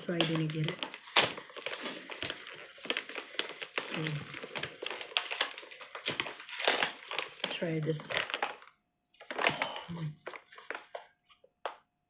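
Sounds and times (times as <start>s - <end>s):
food packaging crinkling: 0.0s - 11.4s.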